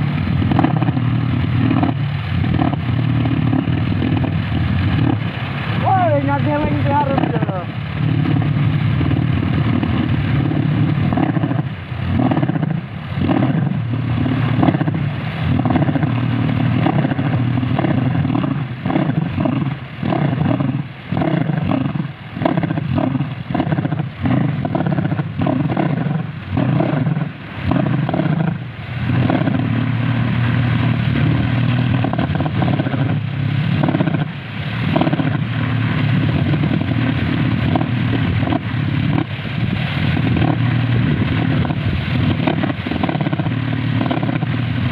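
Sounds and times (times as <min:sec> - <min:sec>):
wind propeller spinning: 0:00.0 - 0:44.9.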